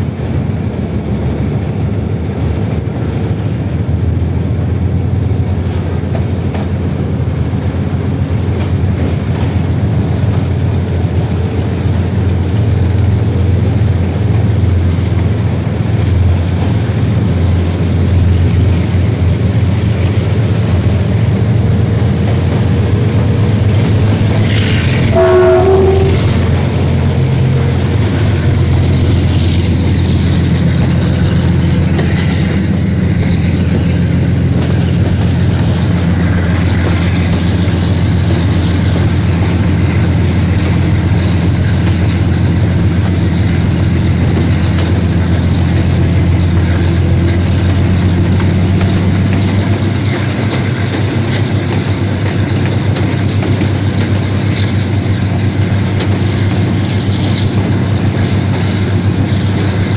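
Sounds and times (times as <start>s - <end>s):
locomotive engine deep drone: 0.0s - 59.9s.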